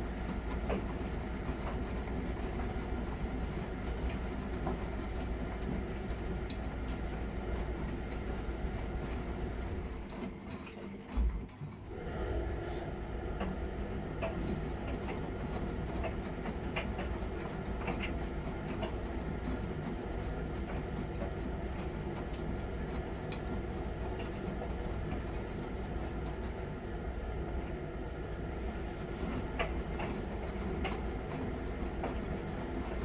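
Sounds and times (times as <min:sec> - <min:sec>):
washing machine hum and rumble: 0:00.0 - 0:33.0.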